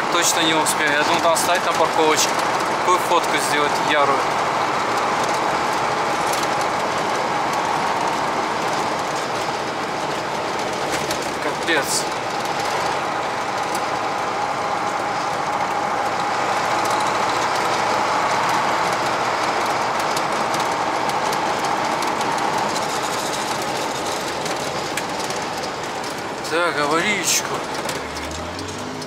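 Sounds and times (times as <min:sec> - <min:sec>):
diesel truck engine running: 0:00.0 - 0:29.0
road noise: 0:00.0 - 0:29.0
truck cab rattling: 0:00.0 - 0:29.0.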